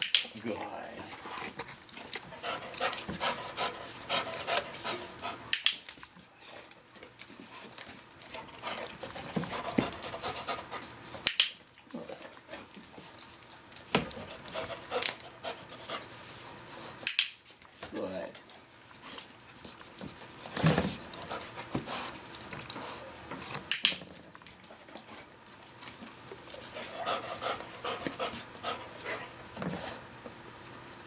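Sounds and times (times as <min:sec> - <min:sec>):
dog panting and sniffing: 0:00.6 - 0:17.8, 0:18.4 - 0:30.9.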